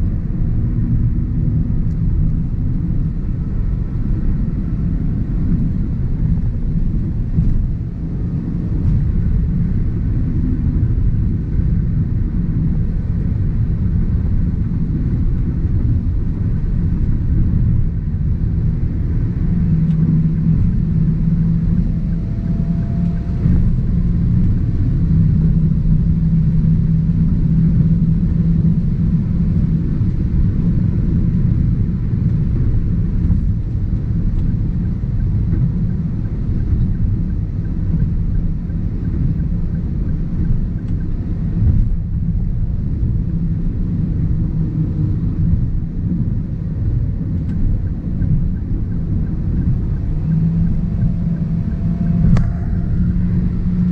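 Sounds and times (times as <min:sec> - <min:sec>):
engine drone: 0:00.0 - 0:53.9
low rumble of tyres and road: 0:00.0 - 0:53.9.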